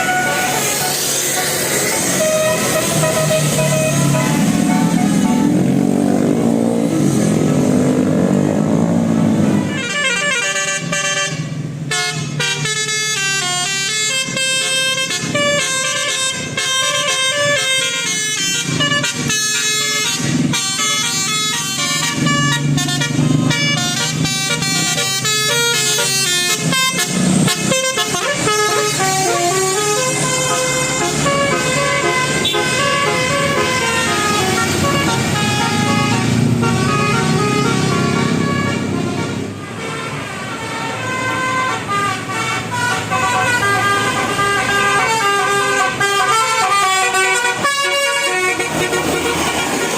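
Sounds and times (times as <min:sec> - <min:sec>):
multi-tone bus horn melody: 0:00.0 - 0:49.9.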